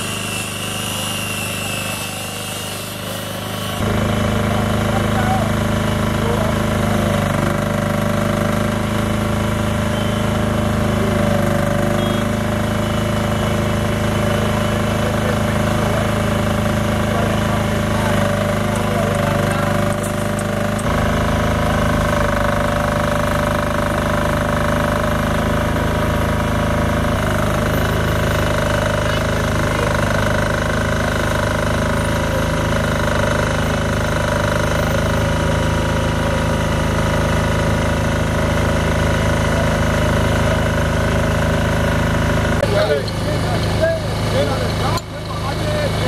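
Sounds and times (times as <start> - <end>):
generator running: 0.0 - 46.0.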